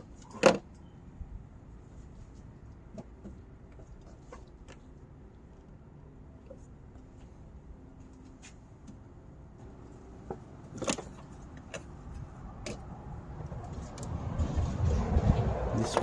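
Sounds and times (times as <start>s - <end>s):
low rumble of handling noise: 0.0s - 16.0s.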